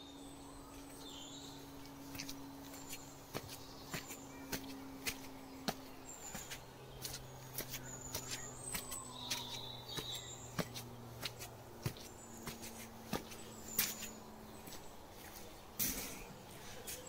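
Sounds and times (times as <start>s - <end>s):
steady low hum: 0.0s - 17.0s
footsteps on tiled steps: 1.7s - 17.0s.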